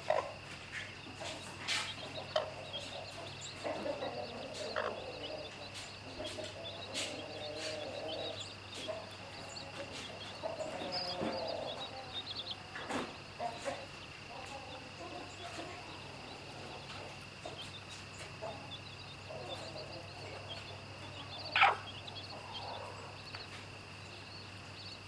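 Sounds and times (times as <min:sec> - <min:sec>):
hen clucking: 0:00.0 - 0:24.0
chicks peeping: 0:00.0 - 0:25.0.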